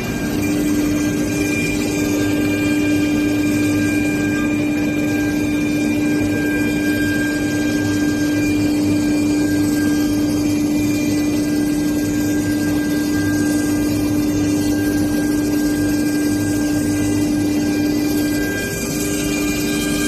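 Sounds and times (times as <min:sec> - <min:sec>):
router spindle steady tone: 0:00.0 - 0:20.0.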